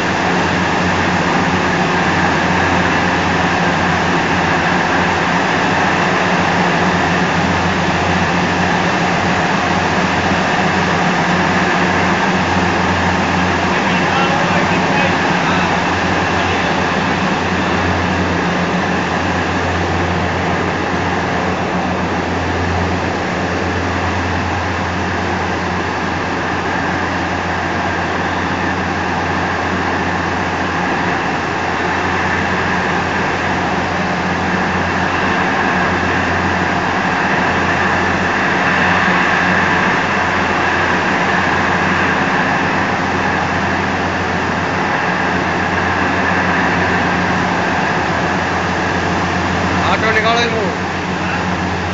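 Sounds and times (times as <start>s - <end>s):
mill machinery humming: 0.0s - 51.9s.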